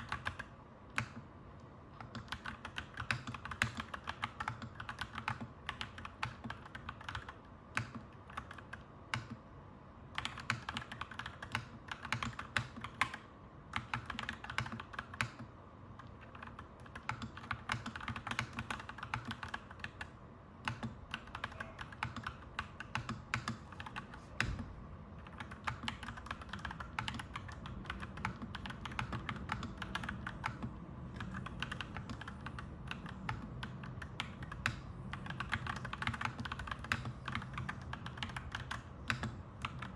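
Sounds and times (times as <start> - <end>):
mechanical keyboard typing: 0.0 - 1.3, 1.9 - 9.4, 10.1 - 24.6, 25.2 - 39.9.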